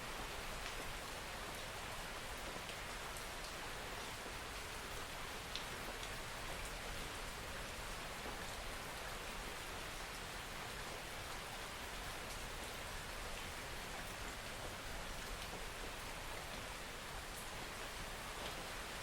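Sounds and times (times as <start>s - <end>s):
soft rain falling: 0.0s - 19.0s.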